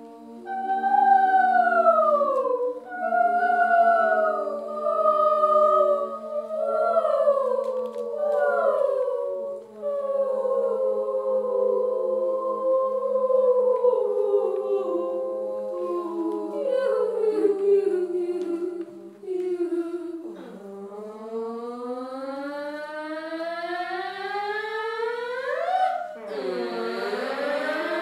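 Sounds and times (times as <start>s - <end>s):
choir singing a cappella: 0.0s - 28.0s.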